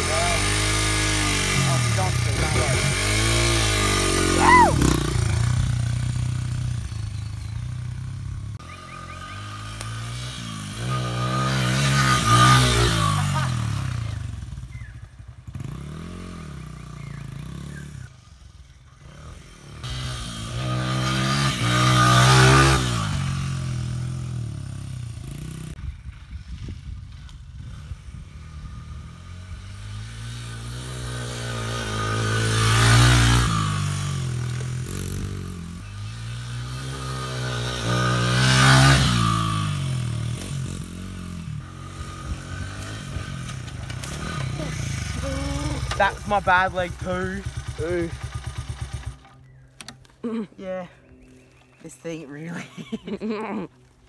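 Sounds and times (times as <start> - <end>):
dirt bike engine revving: 0.0 - 25.8, 27.5 - 49.5.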